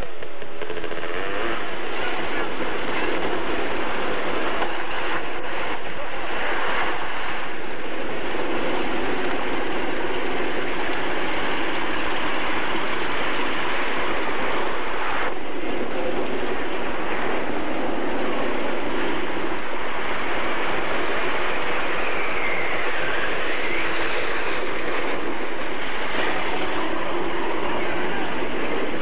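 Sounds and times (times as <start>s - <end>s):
off-road vehicle engine noise: 0.0s - 29.0s.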